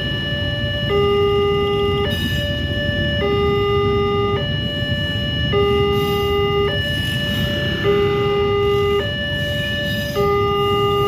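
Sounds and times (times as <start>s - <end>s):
train passing rumble: 1.9s - 11.0s.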